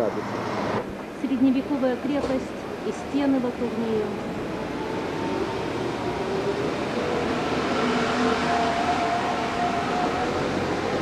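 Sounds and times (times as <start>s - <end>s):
passing traffic: 0.0s - 11.0s.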